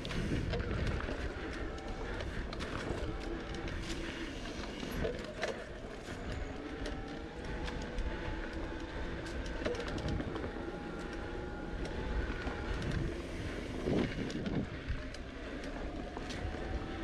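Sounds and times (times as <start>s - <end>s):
bicycle tyres rumbling on dirt: 0.0s - 17.0s
bike rattles and clicks: 0.0s - 17.0s.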